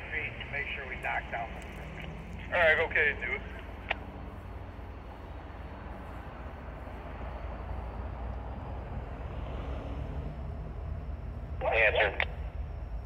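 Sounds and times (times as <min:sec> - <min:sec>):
diesel locomotive rumble: 0:00.0 - 0:13.0.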